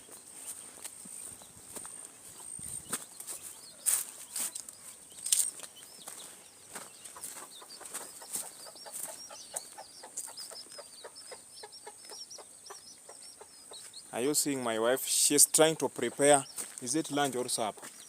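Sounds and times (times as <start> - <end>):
chickens clucking: 0.0 - 18.0
short high peeping calls: 0.0 - 18.0.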